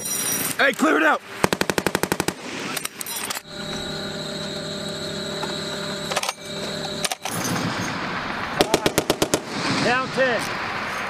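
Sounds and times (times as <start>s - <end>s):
mechanical hum with high whine: 0.0s - 11.0s.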